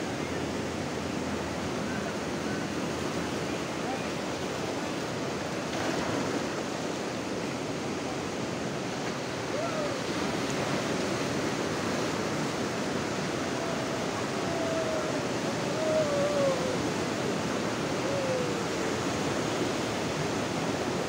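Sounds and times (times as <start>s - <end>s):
sea surf breaking on beach: 0.0s - 21.0s.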